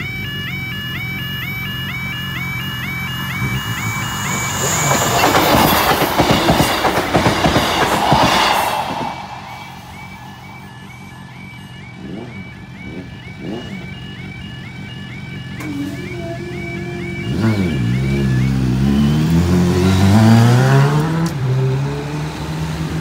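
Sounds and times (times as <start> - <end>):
level crossing alarm warbling: 0.0 - 20.9
motorcycle engines revving: 0.0 - 23.0.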